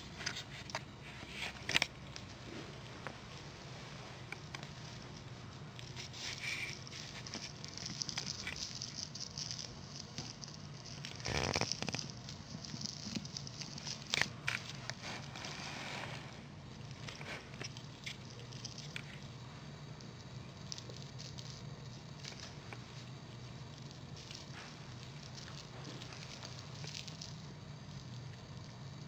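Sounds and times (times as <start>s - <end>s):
puppies rustling and scratching: 0.0s - 28.3s
steady low hum: 0.0s - 29.0s.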